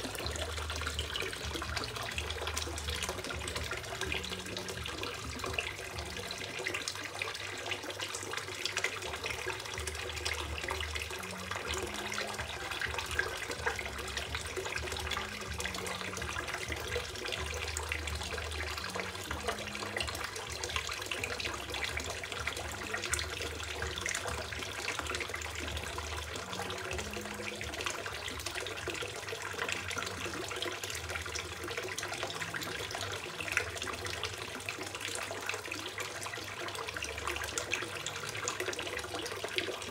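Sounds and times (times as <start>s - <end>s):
water splashing into pond: 0.0s - 39.9s.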